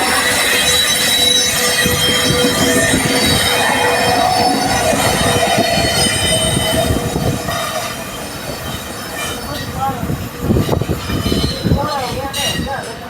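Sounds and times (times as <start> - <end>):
clattering train rumble: 0.0 - 13.0
train wheels squealing: 0.0 - 13.0.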